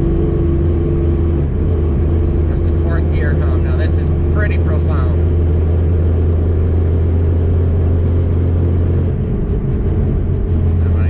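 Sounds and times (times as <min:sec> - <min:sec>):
car interior engine drone: 0:00.0 - 0:11.0
road noise: 0:00.0 - 0:11.0.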